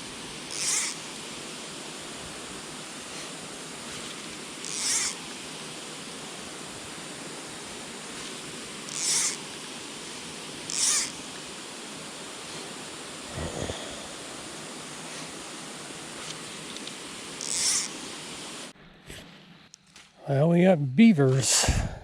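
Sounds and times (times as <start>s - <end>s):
steady rush of noise: 0.0s - 19.7s.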